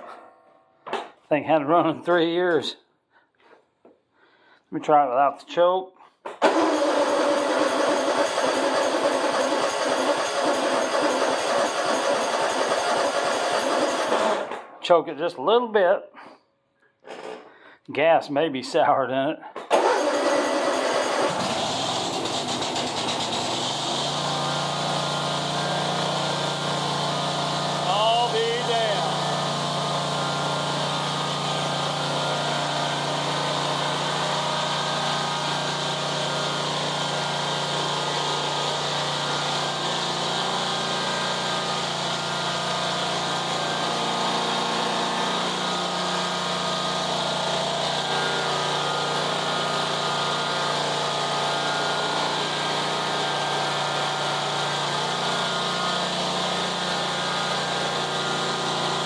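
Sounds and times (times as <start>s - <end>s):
mower engine running: 6.4s - 14.5s, 19.7s - 59.0s.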